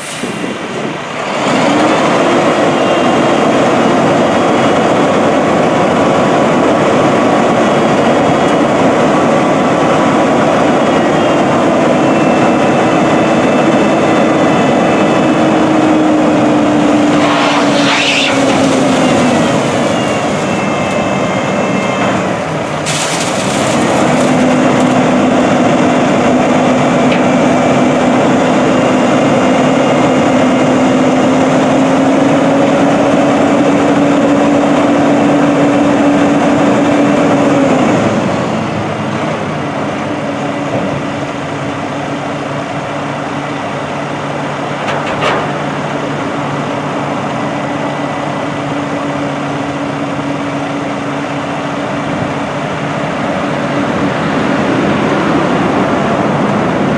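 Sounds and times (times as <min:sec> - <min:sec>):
diesel truck engine running: 0:00.0 - 0:56.9.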